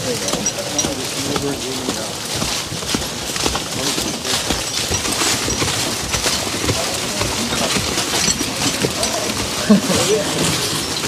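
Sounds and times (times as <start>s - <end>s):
cart wheels rolling on leaves: 0.0s - 11.0s
dry leaves crunching under boots: 0.0s - 11.0s.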